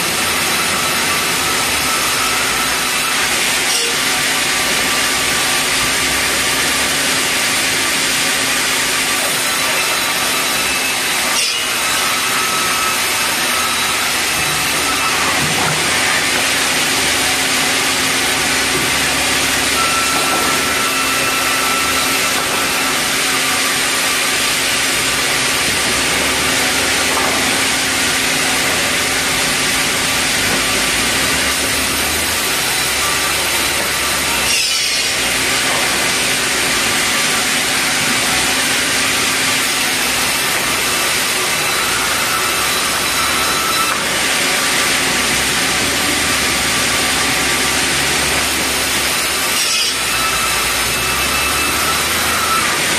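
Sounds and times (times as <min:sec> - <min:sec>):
band saw cutting timber: 0:00.0 - 0:52.9.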